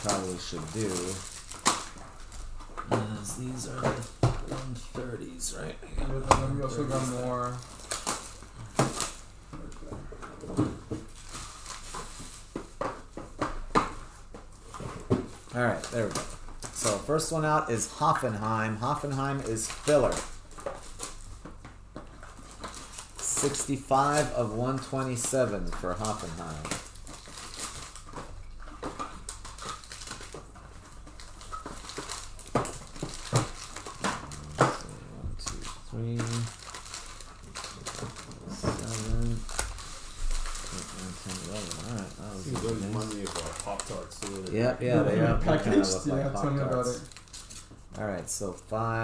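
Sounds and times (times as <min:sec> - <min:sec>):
card packs clicking and tapping: 0:00.0 - 0:05.2, 0:06.3 - 0:44.6
plastic wrappers crinkling: 0:00.0 - 0:05.7, 0:06.4 - 0:49.0.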